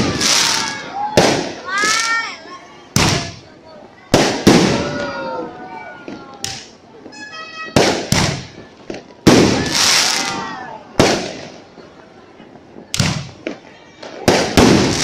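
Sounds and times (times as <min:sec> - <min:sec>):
fireworks crackling hiss: 0:00.0 - 0:05.3, 0:05.9 - 0:15.0
fireworks bangs: 0:00.0 - 0:15.0.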